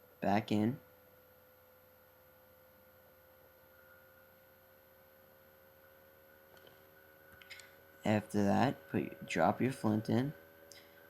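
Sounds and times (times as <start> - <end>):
faint electrical whine: 0.0 - 11.0.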